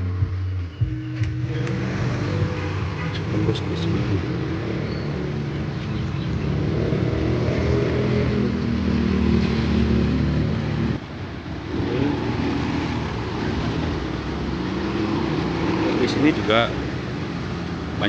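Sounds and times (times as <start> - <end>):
car engines passing: 0.0 - 18.0
motorbike engines passing: 0.0 - 18.0.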